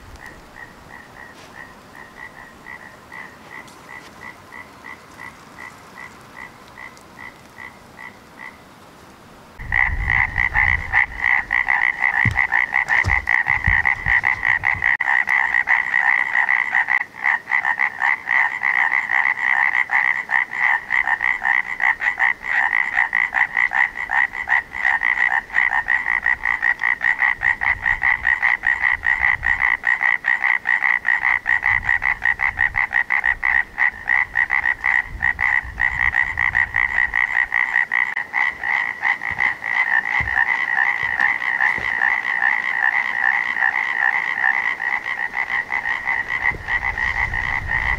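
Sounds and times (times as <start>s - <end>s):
chorus of frogs trilling: 0.0s - 8.6s, 9.6s - 47.9s.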